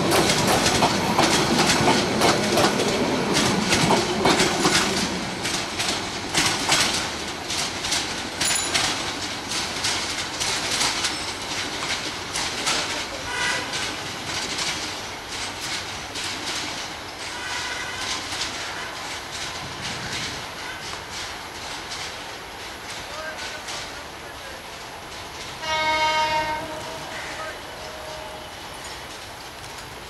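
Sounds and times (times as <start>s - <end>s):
train wheels clickety-clack: 0.0s - 30.0s.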